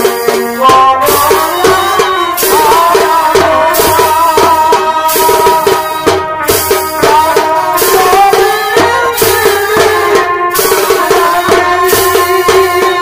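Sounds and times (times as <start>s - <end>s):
drums beating fast rhythm: 0.0s - 13.0s
reed pipe melody: 0.0s - 13.0s.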